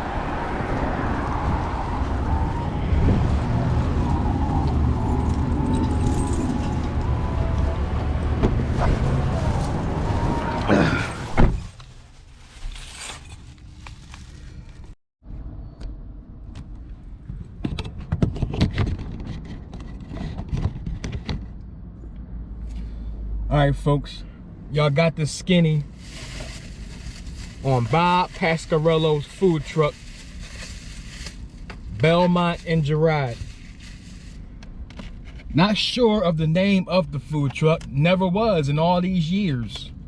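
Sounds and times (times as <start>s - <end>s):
low rumble of motor vehicles: 0.0s - 40.0s
street hum: 0.0s - 40.0s.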